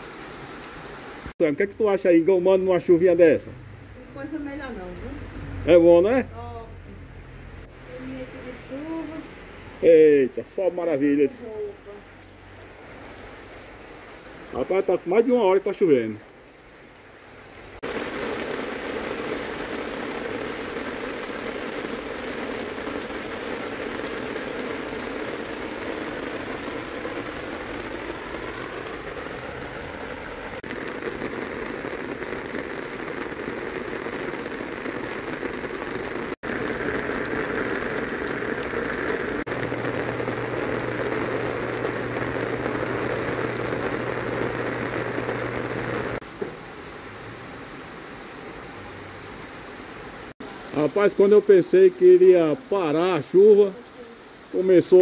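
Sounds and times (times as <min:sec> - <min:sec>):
heavy rain splashing: 0:00.0 - 0:55.0.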